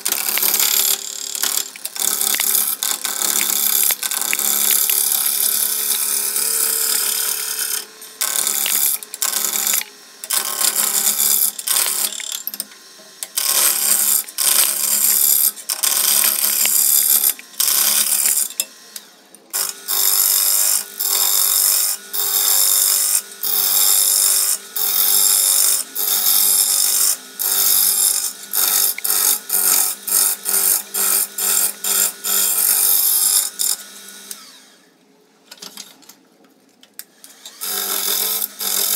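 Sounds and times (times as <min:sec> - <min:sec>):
lathe humming: 0:00.0 - 0:34.8
lathe tool shearing wood: 0:00.0 - 0:34.8, 0:37.3 - 0:38.9.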